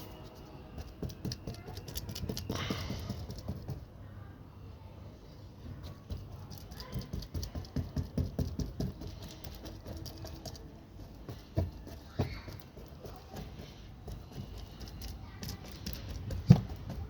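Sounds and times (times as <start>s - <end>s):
light tapping and knocking: 0.8s - 3.9s, 5.9s - 17.0s.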